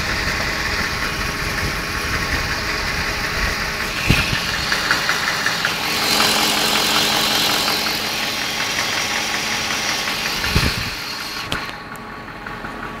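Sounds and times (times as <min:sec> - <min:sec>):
engine idling with ticking: 0:00.0 - 0:13.0.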